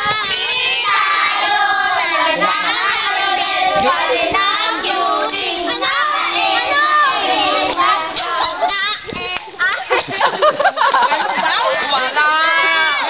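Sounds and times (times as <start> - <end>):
children singing together: 0.0 - 13.0.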